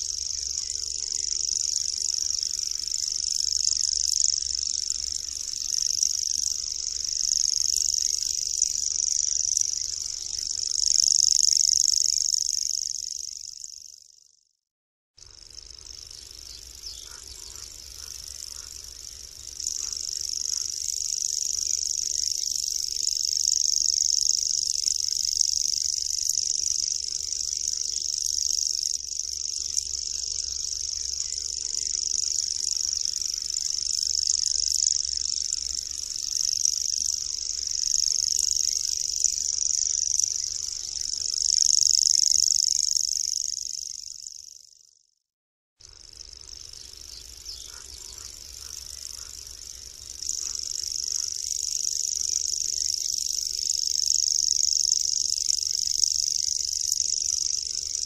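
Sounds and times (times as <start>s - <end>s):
bird reeling trill song: 0.0s - 14.5s, 15.2s - 45.1s, 45.8s - 58.0s.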